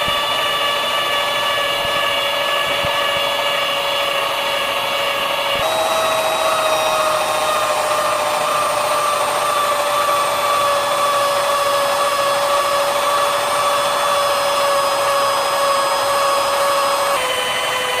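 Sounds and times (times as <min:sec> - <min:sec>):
power tool motor whine: 0:00.0 - 0:18.0.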